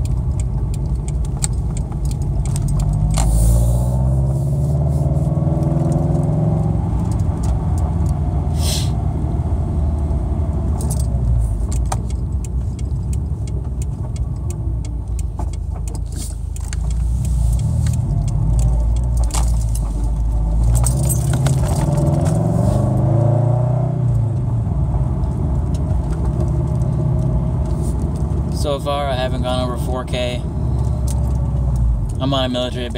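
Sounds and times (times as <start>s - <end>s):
car engine droning: 0.0s - 32.9s.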